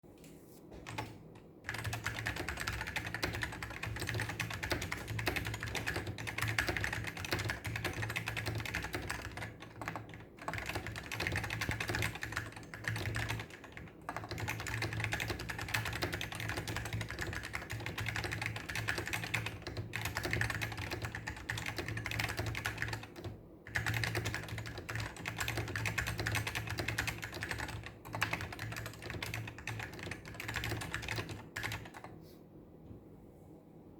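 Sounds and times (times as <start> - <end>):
fast typing on mechanical keyboard: 0.8 - 32.2.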